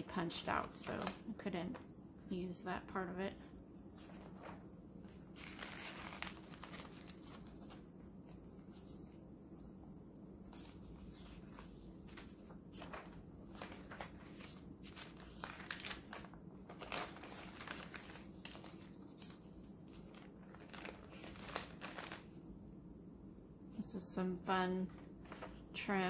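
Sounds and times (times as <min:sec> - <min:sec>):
paper pages rustling: 0:00.2 - 0:01.9, 0:03.7 - 0:22.4, 0:24.9 - 0:25.7.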